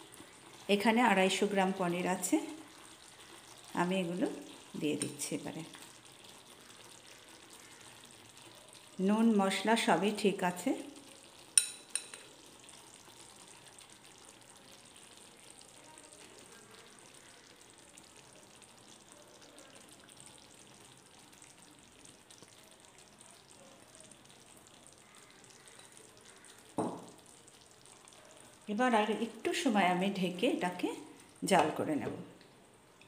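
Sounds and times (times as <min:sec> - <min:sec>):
gravy sizzling in a pan: 0:00.0 - 0:33.0.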